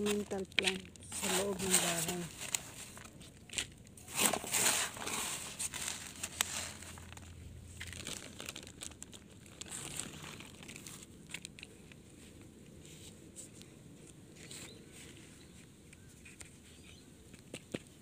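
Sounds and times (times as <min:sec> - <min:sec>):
potting mix rustling and crackling: 0:00.0 - 0:18.0.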